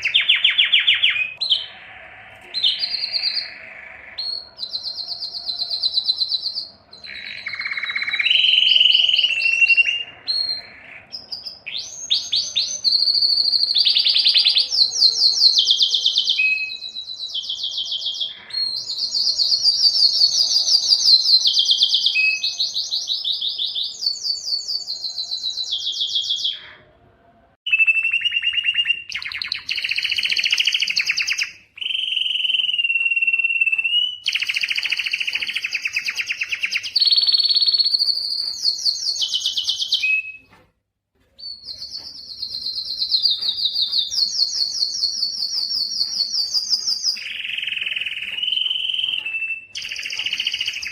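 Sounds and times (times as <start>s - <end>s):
canary singing trills: 0.0s - 26.9s, 27.7s - 40.5s, 41.3s - 50.9s.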